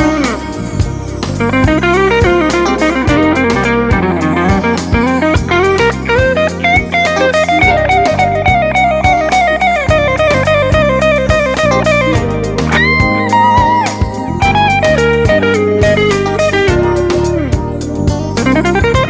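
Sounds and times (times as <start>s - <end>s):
backing track drums and bass: 0.0s - 19.0s
overdriven electric guitar lead: 0.0s - 19.0s.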